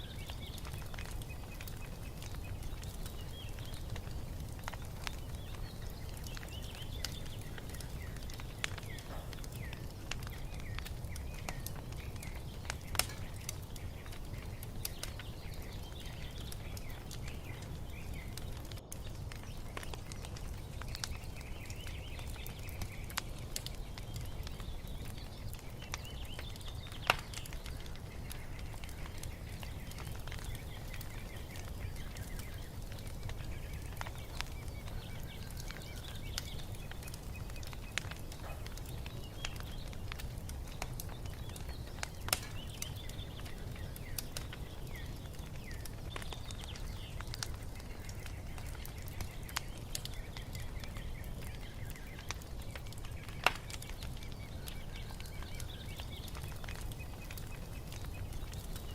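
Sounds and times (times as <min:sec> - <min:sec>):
fire pops: 0:00.0 - 0:58.9
small birds chirping: 0:00.0 - 0:58.9
wood fire crackling: 0:00.0 - 0:58.9.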